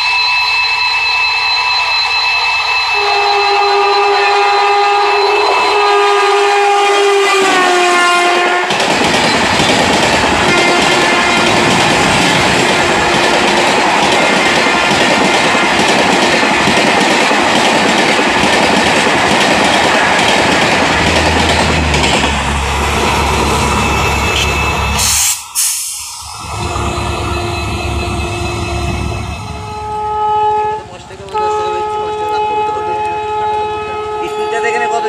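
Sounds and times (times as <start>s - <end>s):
train coaches passing: 0.0s - 35.0s.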